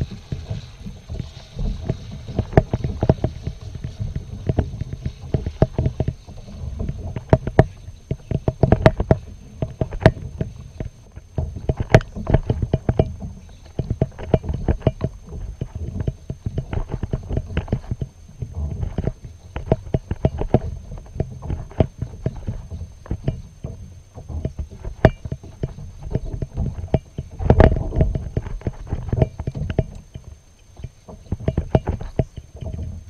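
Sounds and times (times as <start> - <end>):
paddle knocking against kayak: 0.0 - 33.0.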